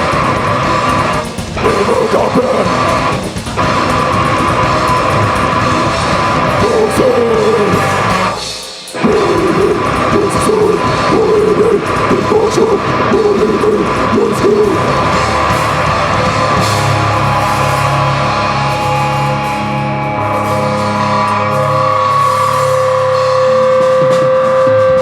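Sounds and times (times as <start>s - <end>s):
electric guitar sustained notes: 0.0s - 25.0s
live rock band playing: 0.0s - 25.0s
pulsing bass line: 0.0s - 25.0s.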